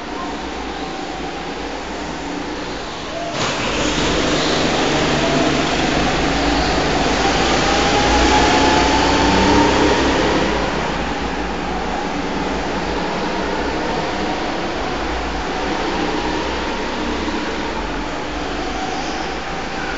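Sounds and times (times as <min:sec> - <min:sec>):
go-kart engines running: 0:00.0 - 0:19.9.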